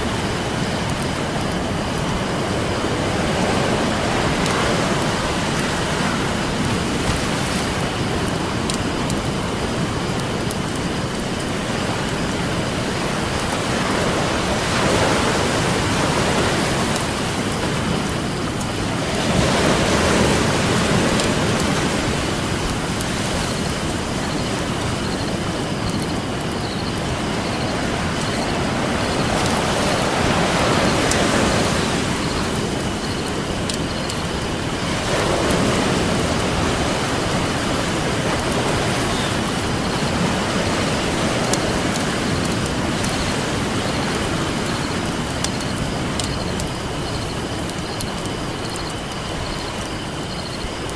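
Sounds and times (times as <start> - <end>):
campfire crackling faintly: 0.0 - 50.9
ocean surf washing ashore: 0.0 - 50.9.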